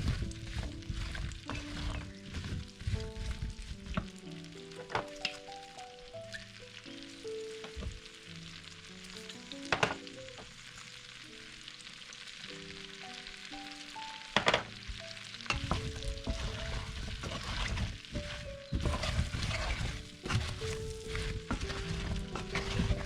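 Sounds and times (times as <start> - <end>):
background music: 0.0 - 23.0
food sizzling in a pan: 0.0 - 23.0.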